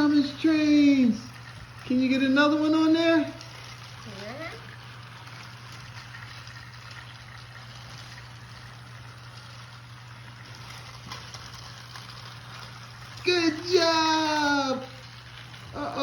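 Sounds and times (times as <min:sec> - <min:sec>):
toy train motors whirring: 0:00.0 - 0:16.0.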